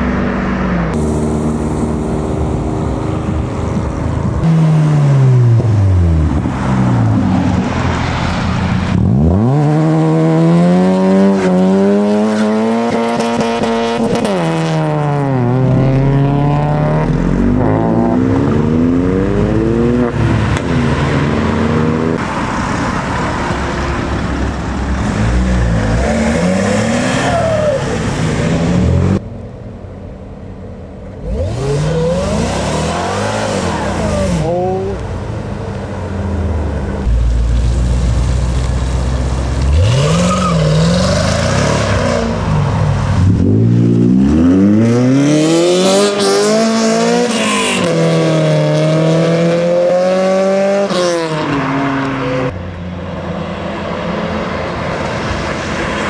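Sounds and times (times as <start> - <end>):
car engines accelerating and revving: 0.0 - 29.4, 30.5 - 56.0.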